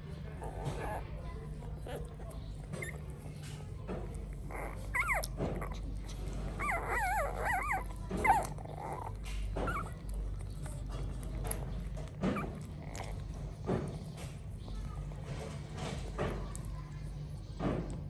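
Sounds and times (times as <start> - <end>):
puppies whimpering: 0.0 - 14.6.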